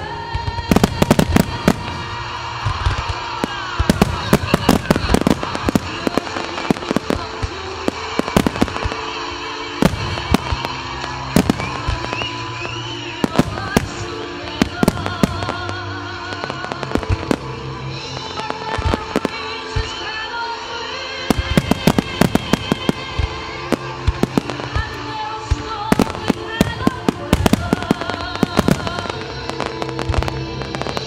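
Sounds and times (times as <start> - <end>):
fireworks bursting: 0.0 - 31.0
music with sustained tones: 0.0 - 31.0.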